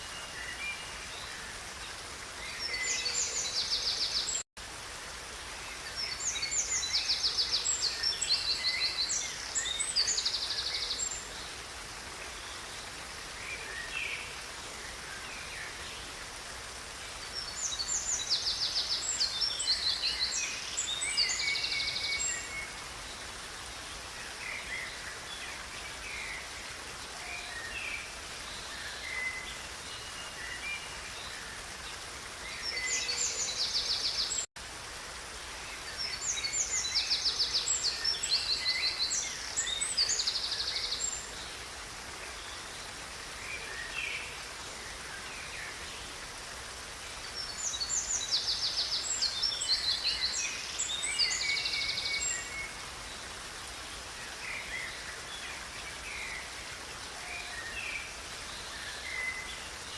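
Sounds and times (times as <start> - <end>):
songbirds singing: 0.0 - 4.4, 5.3 - 34.5, 35.2 - 59.9.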